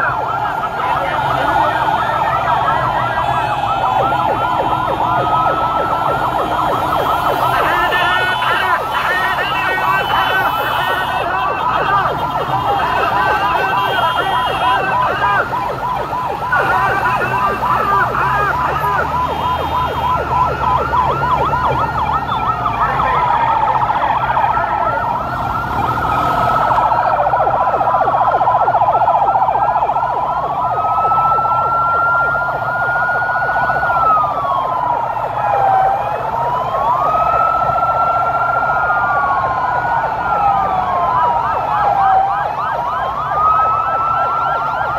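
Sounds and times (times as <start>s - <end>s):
sirens yelping and wailing: 0.0s - 44.9s
vehicle engines rumbling: 0.0s - 44.9s.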